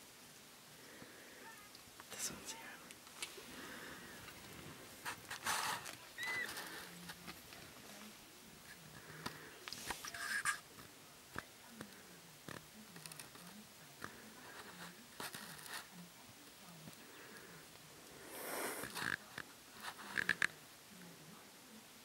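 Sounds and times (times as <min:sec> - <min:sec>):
soft scratches and rustles: 0:02.1 - 0:21.4.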